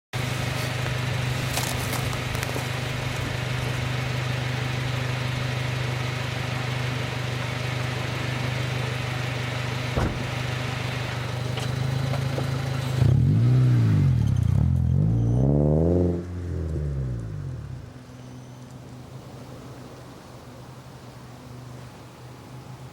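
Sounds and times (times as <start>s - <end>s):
car engine idling and revving: 0.2s - 22.9s.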